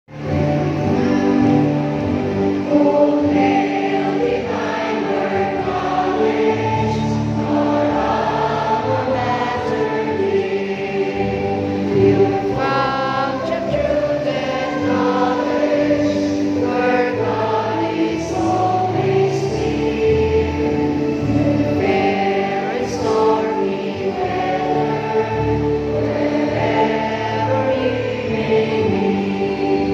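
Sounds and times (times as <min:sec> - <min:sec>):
choir singing a hymn: 0:00.1 - 0:29.9
instrumental accompaniment: 0:00.1 - 0:29.9.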